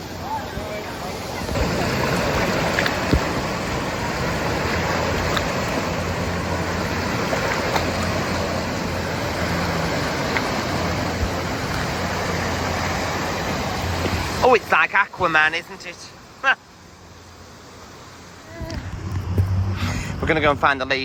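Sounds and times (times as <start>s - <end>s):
muffled rushing water: 0.0s - 21.0s.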